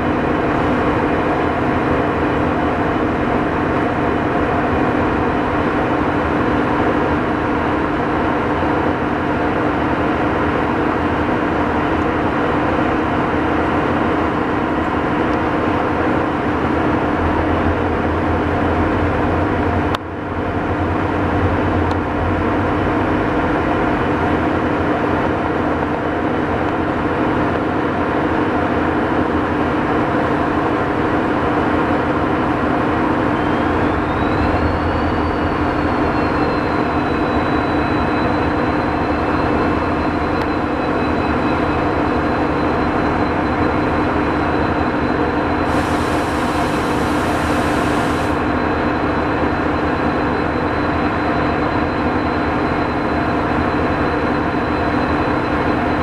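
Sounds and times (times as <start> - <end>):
diesel locomotive drone: 0.0 - 56.0.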